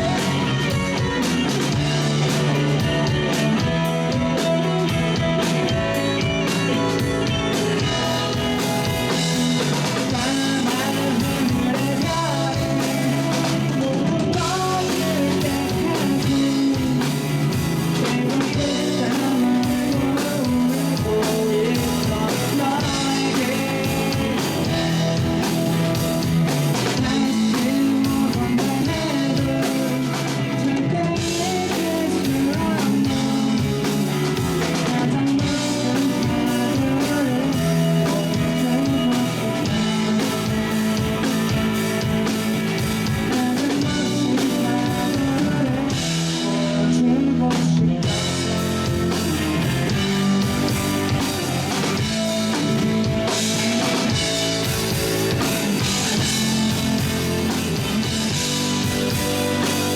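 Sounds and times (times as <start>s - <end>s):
rock band playing live: 0.0s - 59.9s
sung vocals: 0.0s - 59.9s.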